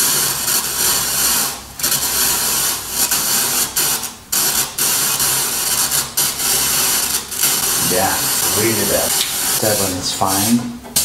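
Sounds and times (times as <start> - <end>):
loud mixer hiss: 0.0 - 11.0.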